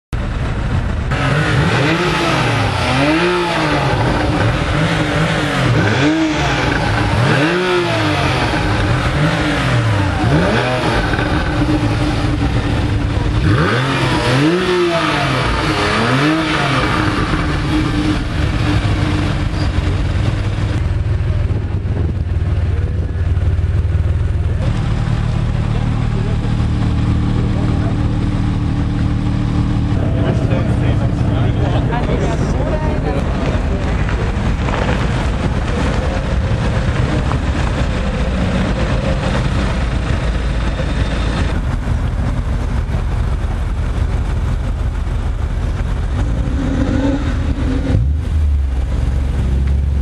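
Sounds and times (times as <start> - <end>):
car engine idling: 0.1 - 50.0
sports car engine revving: 0.2 - 50.0.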